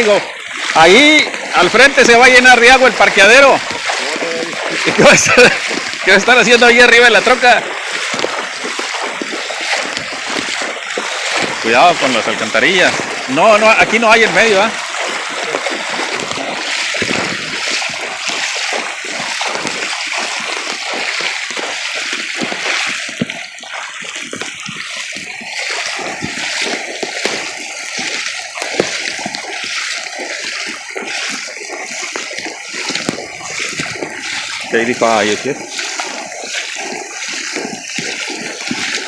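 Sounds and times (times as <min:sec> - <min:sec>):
floodwater splashing and sloshing: 0:00.0 - 0:39.0.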